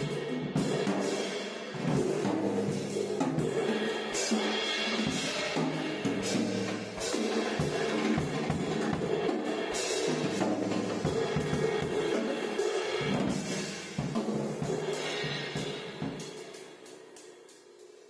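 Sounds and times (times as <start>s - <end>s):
ringing cymbals: 0.0s - 18.0s.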